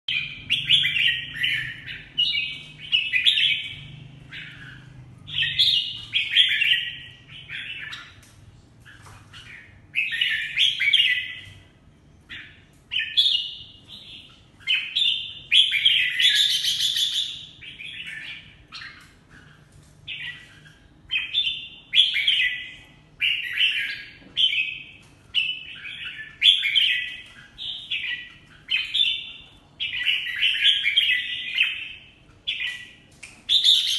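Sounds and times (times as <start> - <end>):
bird singing warbling phrases: 0.1 - 33.9.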